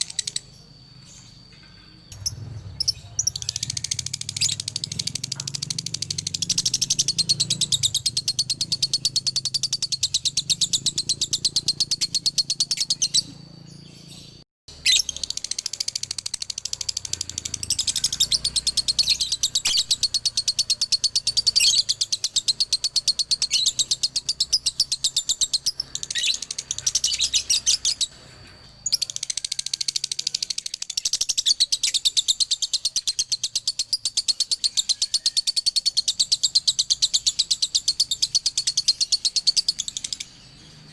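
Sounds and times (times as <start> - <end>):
bird high rapid chirps: 0.0 - 40.9.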